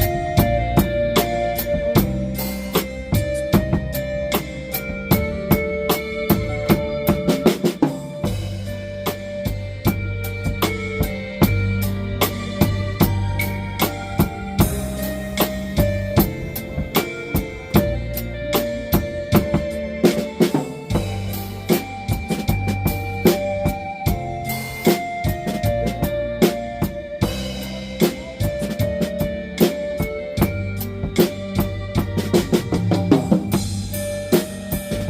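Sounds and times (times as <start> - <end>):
bass and guitar backing track: 0.0 - 35.0
drum kit blues groove: 0.0 - 35.0.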